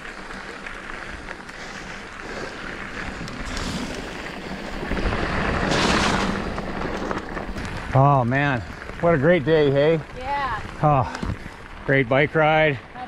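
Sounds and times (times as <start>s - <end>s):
bike tyres on gravel: 0.0s - 13.0s.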